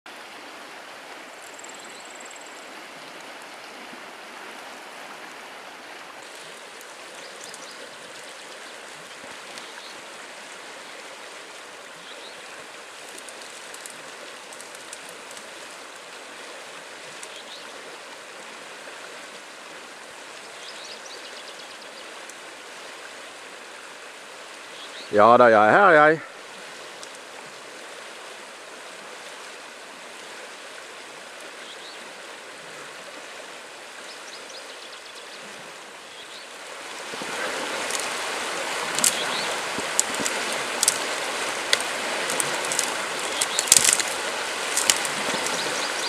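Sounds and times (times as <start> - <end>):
rushing river water: 0.1 - 46.0.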